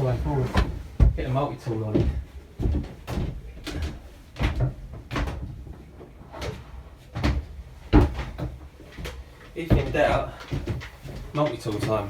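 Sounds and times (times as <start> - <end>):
hard objects knocking and clunking: 0.0 - 12.0.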